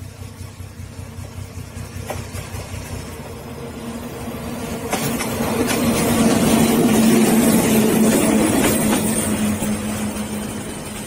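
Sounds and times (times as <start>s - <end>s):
diesel locomotive humming: 0.0s - 11.0s.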